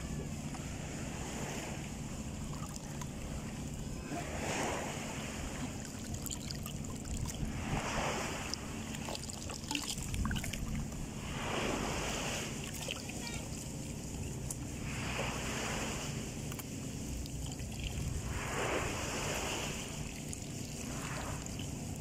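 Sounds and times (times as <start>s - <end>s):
small waves lapping: 0.0s - 22.0s
wind rumble on microphone: 0.0s - 22.0s.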